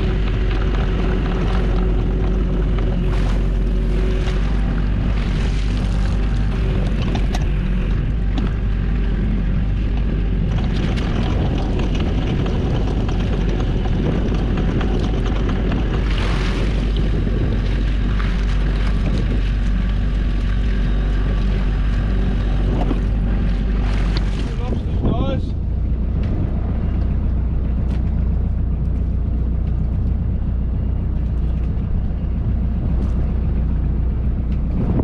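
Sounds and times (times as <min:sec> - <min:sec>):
boat engine running: 0:00.0 - 0:35.0
water sloshing along hull: 0:00.0 - 0:35.0.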